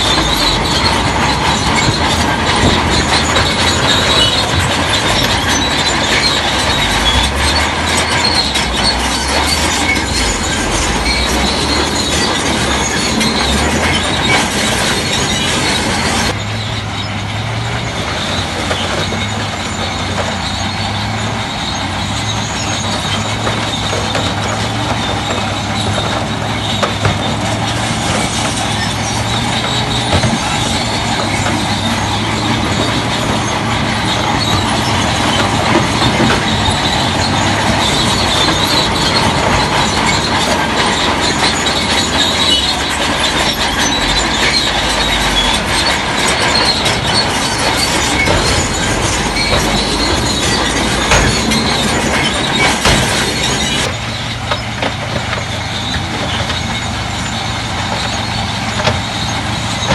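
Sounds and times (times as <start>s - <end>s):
bulldozer diesel engine: 0.0s - 59.9s
steel tracks squealing and clanking: 0.0s - 59.9s.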